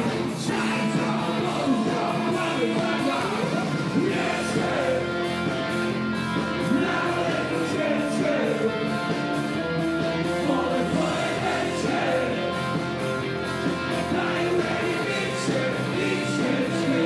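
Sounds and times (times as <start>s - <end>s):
voices singing into microphones: 0.0s - 5.6s, 6.5s - 9.1s, 10.3s - 13.0s, 13.9s - 17.0s
electric bass: 0.0s - 17.0s
electric guitar: 0.0s - 17.0s.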